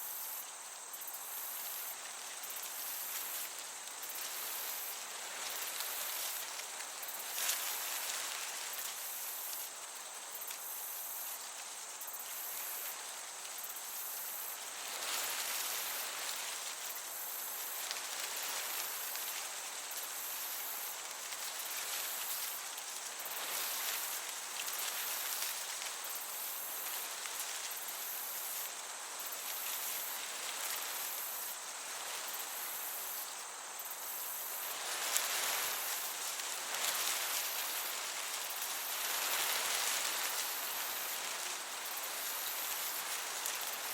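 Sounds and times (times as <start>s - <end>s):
breeze hissing: 0.0s - 43.9s
crickets chirping: 0.0s - 43.9s.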